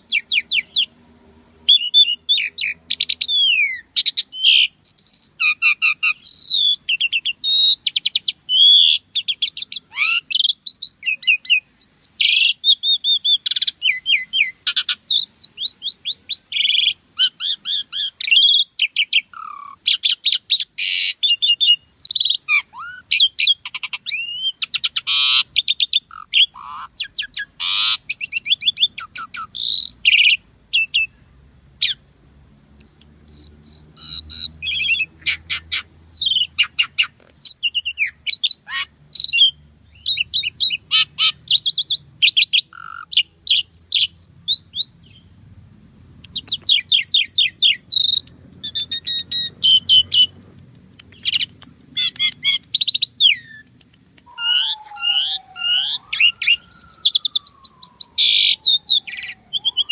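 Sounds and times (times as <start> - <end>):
starling singing: 0.0 - 31.2, 32.8 - 45.4, 46.2 - 59.9.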